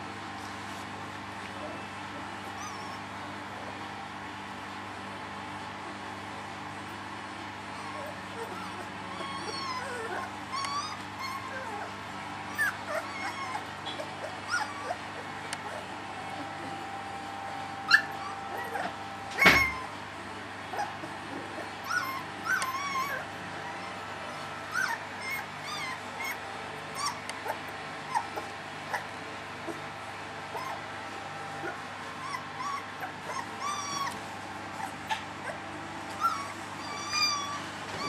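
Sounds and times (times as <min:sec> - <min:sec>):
puppies whimpering and squeaking: 0:01.6 - 0:03.2, 0:07.7 - 0:20.0, 0:20.7 - 0:38.0.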